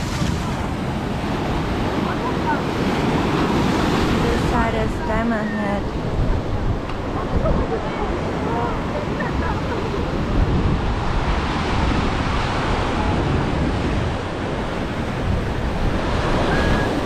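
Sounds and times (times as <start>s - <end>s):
waves breaking on beach: 0.0s - 17.0s
wind rumbling on microphone: 0.0s - 17.0s.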